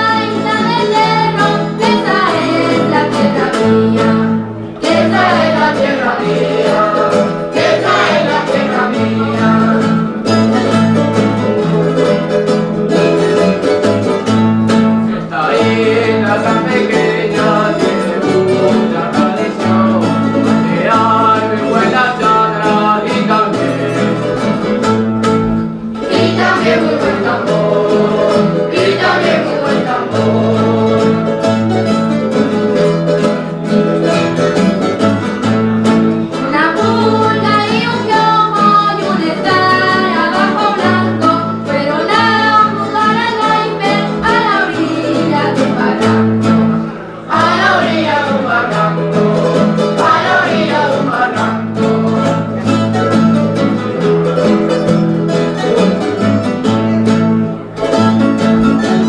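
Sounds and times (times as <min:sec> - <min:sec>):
group singing: 0:00.0 - 0:32.7, 0:33.4 - 0:54.3
strummed guitars: 0:00.0 - 0:59.0.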